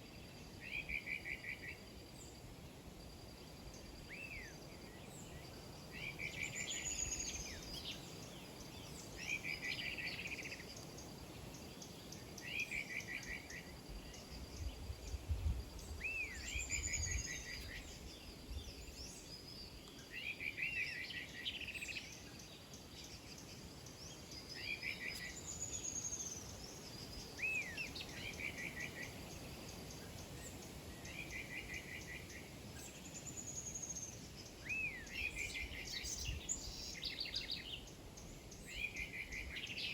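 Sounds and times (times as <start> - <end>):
faint insect-like whine: 0.0 - 39.9.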